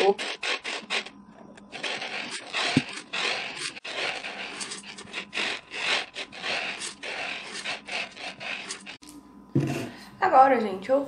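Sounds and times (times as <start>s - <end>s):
dry beans sliding on wood: 0.0s - 9.0s.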